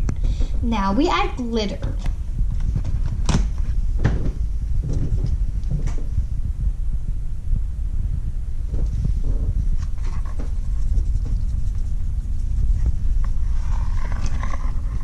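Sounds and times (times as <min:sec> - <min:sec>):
low rumbling handling noise: 0:00.0 - 0:15.0.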